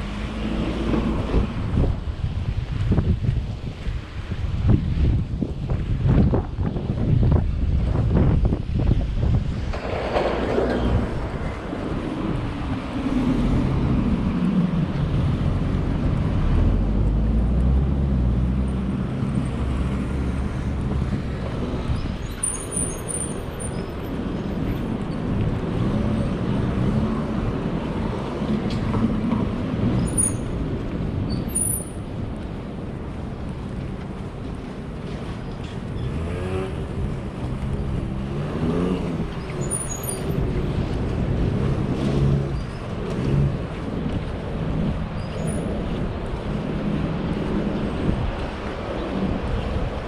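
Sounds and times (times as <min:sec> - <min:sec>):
vehicles passing: 0:00.0 - 0:50.0.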